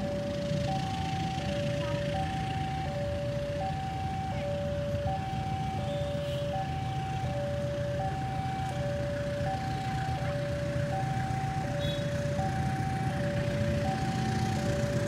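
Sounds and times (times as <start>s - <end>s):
level crossing alarm tones: 0.0s - 15.0s.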